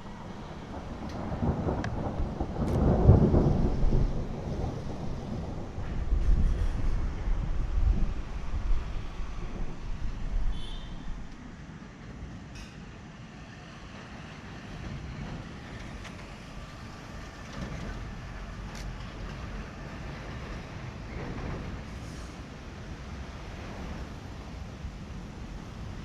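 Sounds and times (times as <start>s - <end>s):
thunder rumbling: 0.0s - 12.4s, 14.0s - 26.0s
low storm noise: 0.0s - 26.0s.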